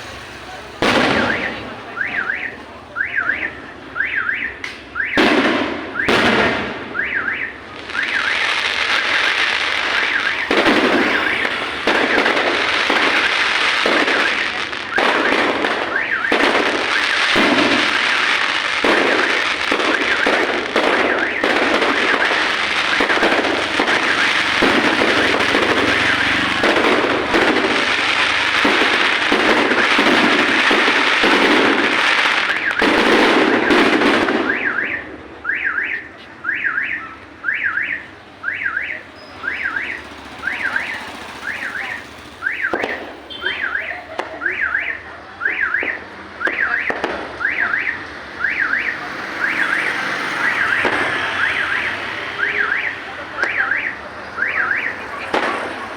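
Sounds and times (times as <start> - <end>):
fireworks crackling and banging: 0.0 - 55.9
car alarm chirping: 1.1 - 33.0, 34.4 - 55.6.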